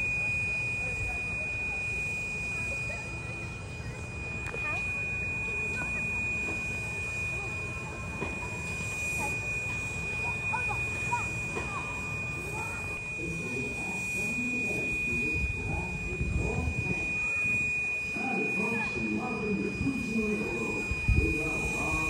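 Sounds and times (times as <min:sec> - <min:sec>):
high-pitched whine: 0:00.0 - 0:22.0
people's voices: 0:00.0 - 0:22.0.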